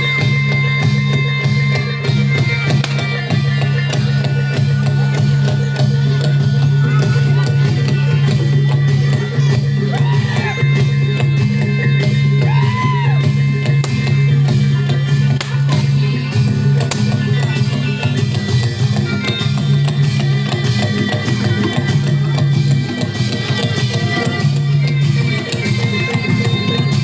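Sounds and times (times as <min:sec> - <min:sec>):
driving percussion beat: 0:00.0 - 0:27.0.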